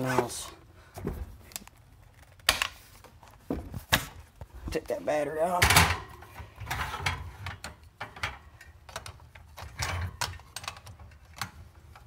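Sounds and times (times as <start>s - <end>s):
objects handled by hand: 0.0s - 12.0s.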